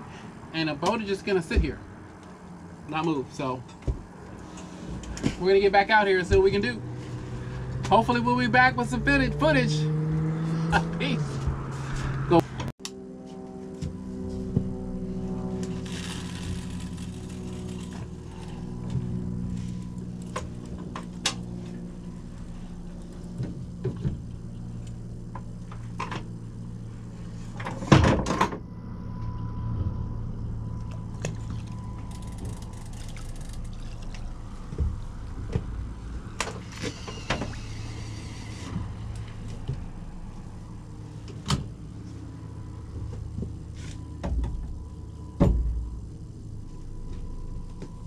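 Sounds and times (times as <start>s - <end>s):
boat motor humming: 1.6s - 48.0s.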